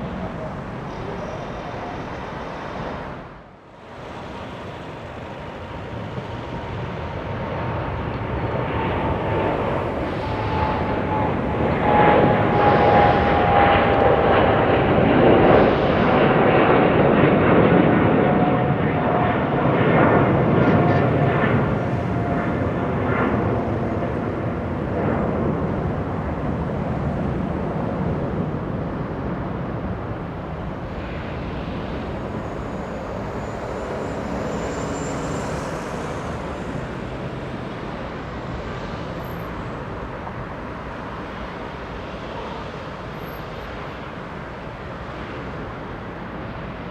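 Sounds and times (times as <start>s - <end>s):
jet airliner engines passing: 0.0s - 46.9s.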